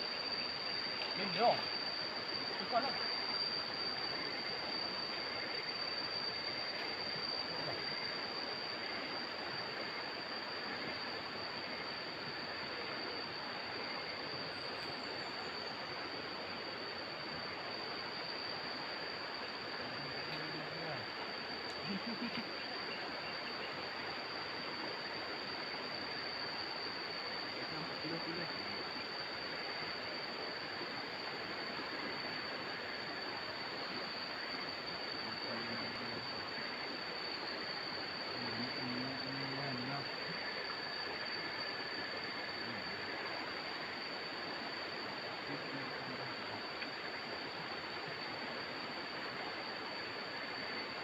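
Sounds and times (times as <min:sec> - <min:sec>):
constant high-pitched tone: 0:00.0 - 0:51.0
even hiss: 0:00.0 - 0:51.0
high-pitched insect drone: 0:00.0 - 0:51.0.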